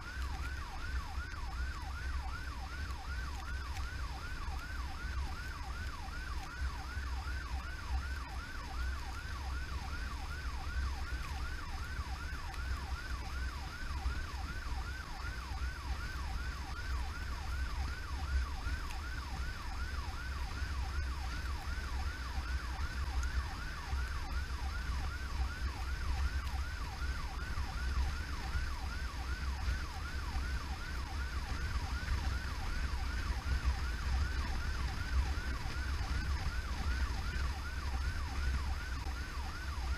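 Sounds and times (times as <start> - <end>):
siren on fast yelp: 0.0 - 39.9.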